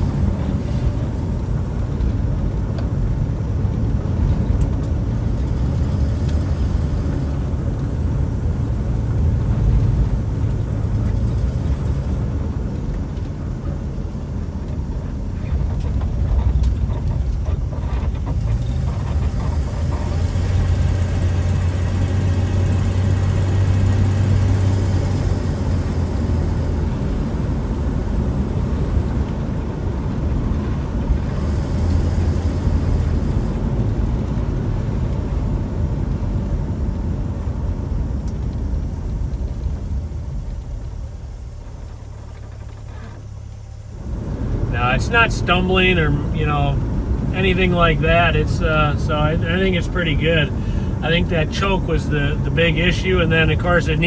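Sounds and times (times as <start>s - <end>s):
car engine and road noise drone: 0.0s - 54.0s.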